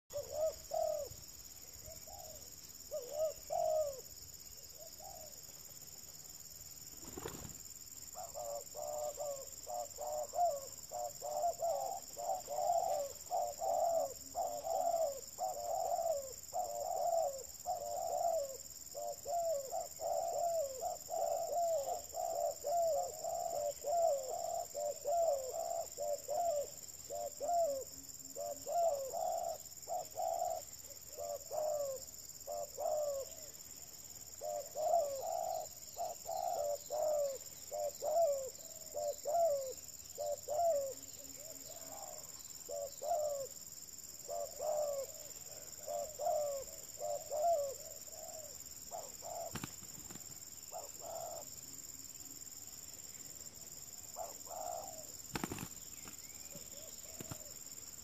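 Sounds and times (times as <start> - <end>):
doves cooing: 0.1 - 5.7, 7.0 - 43.6, 44.2 - 51.7, 53.6 - 58.0.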